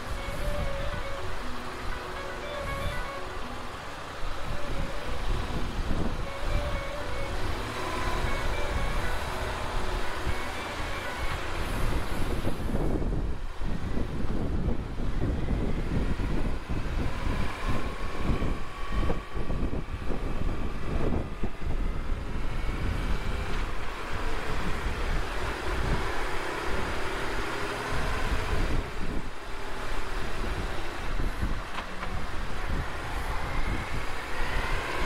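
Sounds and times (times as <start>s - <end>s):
motorcycle engine rumble: 0.0s - 35.0s
wind buffeting microphone: 0.0s - 35.0s.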